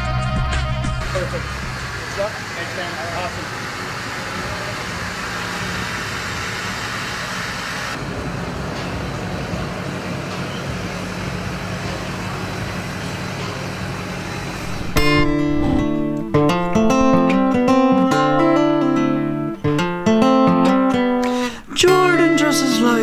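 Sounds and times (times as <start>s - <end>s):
engine running with low hum: 0.0s - 19.6s.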